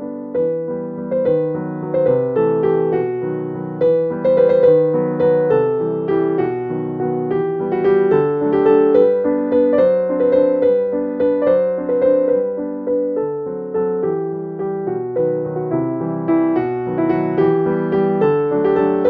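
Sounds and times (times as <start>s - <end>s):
gentle piano melody with chords: 0.0s - 19.0s.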